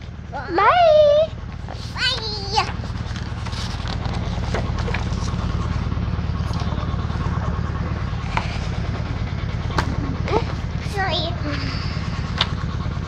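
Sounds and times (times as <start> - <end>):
airway vest pulsing rumble: 0.0 - 13.0.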